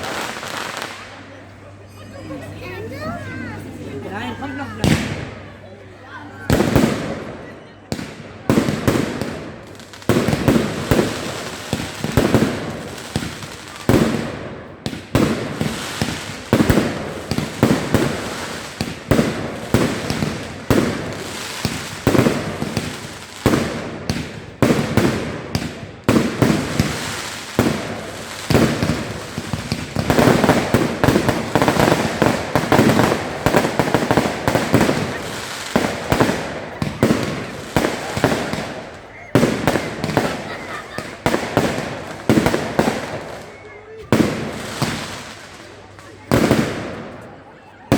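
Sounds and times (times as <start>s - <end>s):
firework bursts and bangs: 0.0s - 1.3s, 4.8s - 5.4s, 6.4s - 47.9s
crackling firework reports: 0.0s - 1.8s, 3.0s - 5.7s, 6.3s - 47.9s.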